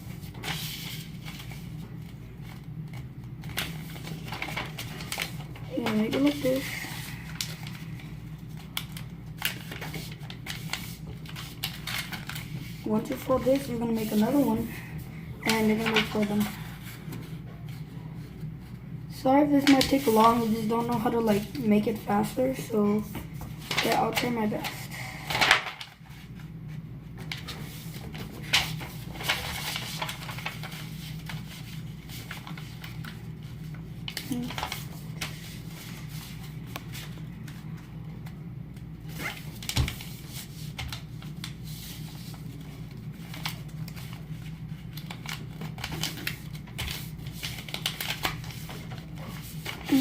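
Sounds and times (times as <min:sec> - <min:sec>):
paper rustling and crinkling: 0:00.0 - 0:18.3, 0:19.4 - 0:50.0
steady low hum: 0:00.0 - 0:50.0.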